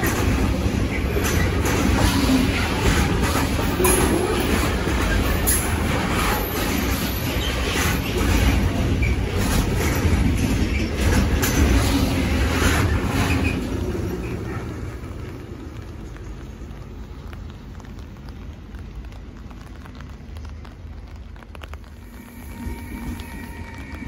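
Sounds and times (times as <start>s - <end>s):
freight train wagons rumbling past: 0.0s - 24.0s
train wheel clatter: 0.0s - 24.0s.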